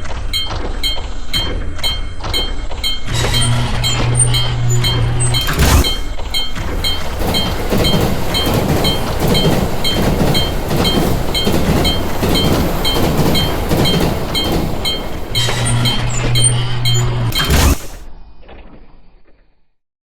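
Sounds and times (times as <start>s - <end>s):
crossing warning bell dinging: 0.0s - 18.0s
train rumbling past: 0.3s - 18.0s.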